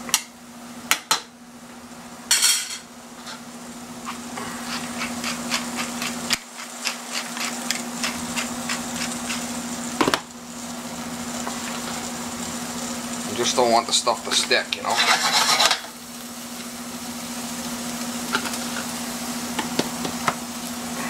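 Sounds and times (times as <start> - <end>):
meat sizzling in a skillet: 2.3 - 21.0.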